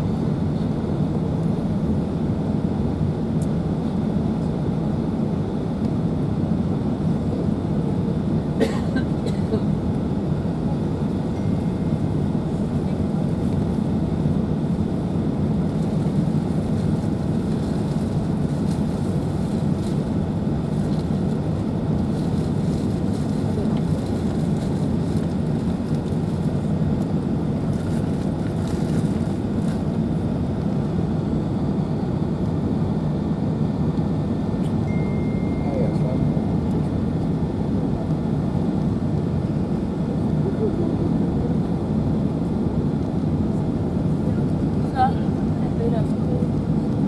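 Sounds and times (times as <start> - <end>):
airplane cabin engine rumble: 0.0 - 47.0.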